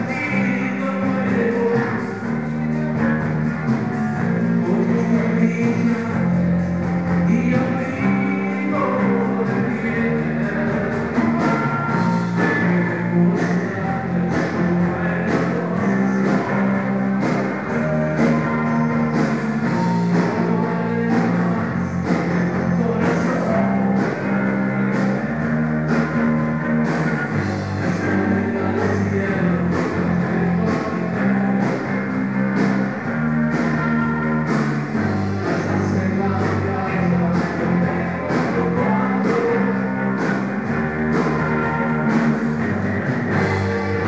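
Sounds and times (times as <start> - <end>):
bass notes: 0.0 - 44.0
drum kit: 0.0 - 44.0
electric guitar notes: 0.0 - 44.0
rock band playing: 0.0 - 44.0.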